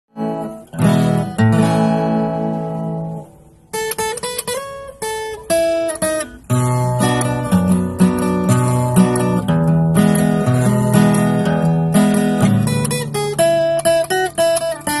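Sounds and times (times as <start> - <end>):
acoustic guitar strumming: 0.1 - 15.0
picked guitar notes: 0.1 - 15.0.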